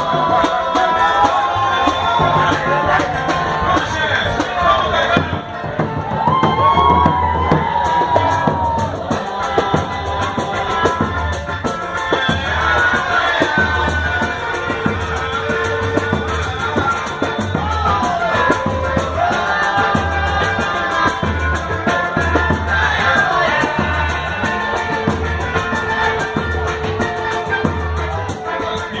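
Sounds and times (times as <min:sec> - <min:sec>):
low drum beat: 0:00.0 - 0:28.5
hand percussion: 0:00.0 - 0:29.0.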